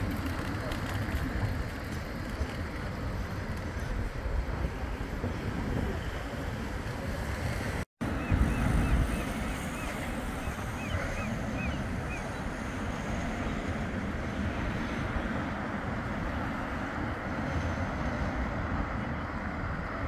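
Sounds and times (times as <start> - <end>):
rushing outdoor noise: 0.0 - 20.0
wind rumbling on microphone: 0.0 - 20.0.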